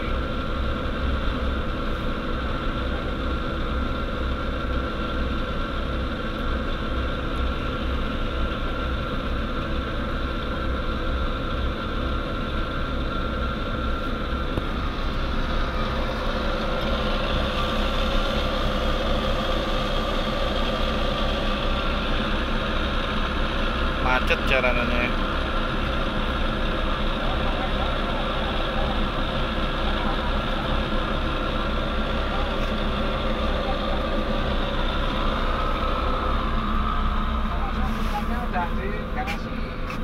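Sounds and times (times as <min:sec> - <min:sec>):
bus diesel engine running: 0:00.0 - 0:40.0
steady higher whine: 0:00.0 - 0:40.0.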